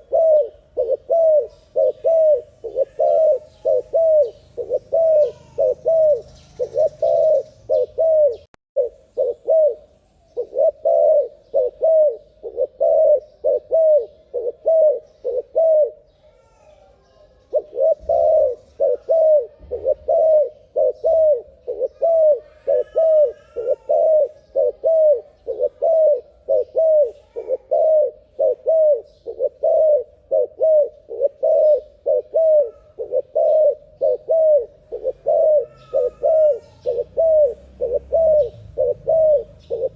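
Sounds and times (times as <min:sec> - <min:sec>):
dove cooing: 0:00.0 - 0:16.6, 0:17.2 - 0:39.9
faint high bird chirps: 0:00.0 - 0:29.8, 0:30.6 - 0:39.9.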